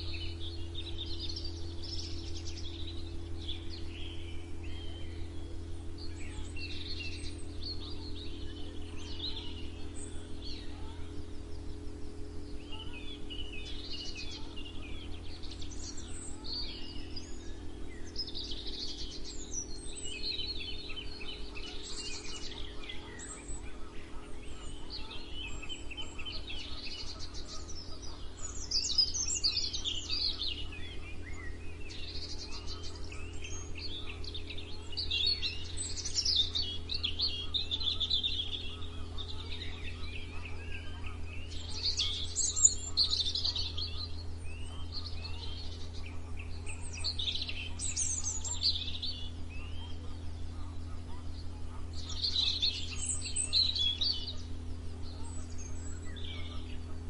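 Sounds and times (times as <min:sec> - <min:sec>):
birds chirping and singing: 0:00.0 - 0:57.0
low hum: 0:00.0 - 0:57.0.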